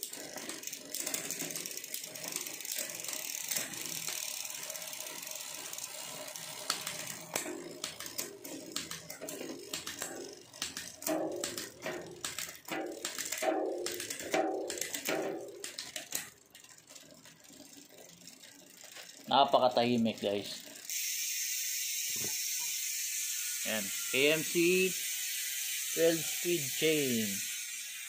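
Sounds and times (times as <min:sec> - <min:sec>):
bicycle chain whirring: 0:00.0 - 0:28.0.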